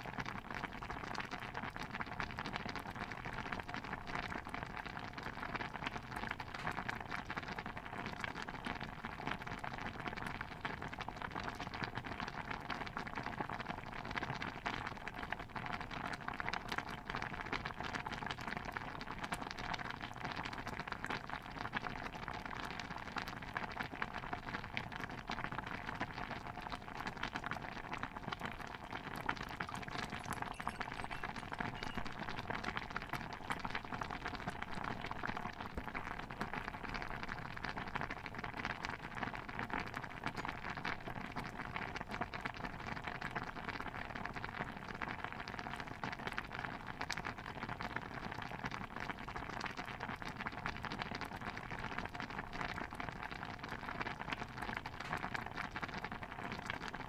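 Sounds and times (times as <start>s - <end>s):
stew bubbling in a cauldron: 0.0s - 57.0s.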